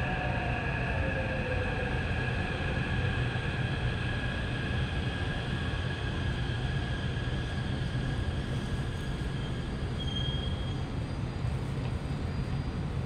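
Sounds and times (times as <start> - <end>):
electric train pulling in: 0.0 - 13.0.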